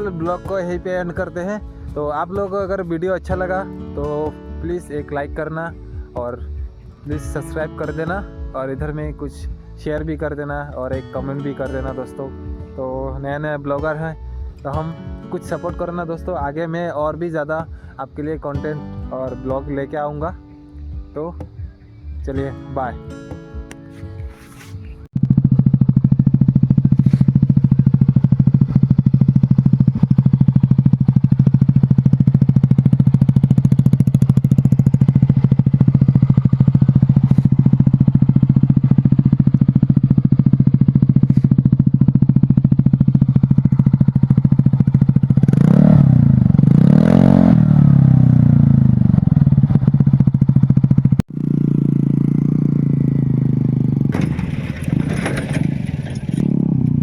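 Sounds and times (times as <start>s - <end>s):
scooter engine idling and revving: 0.0s - 20.5s, 21.3s - 57.0s.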